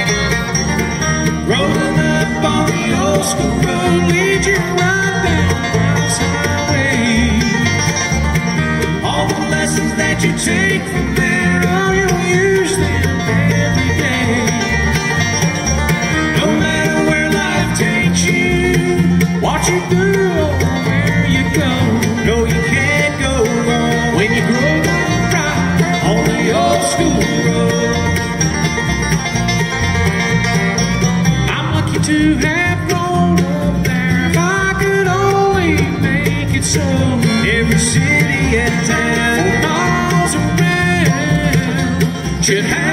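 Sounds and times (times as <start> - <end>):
bluegrass band playing: 0.0 - 42.9.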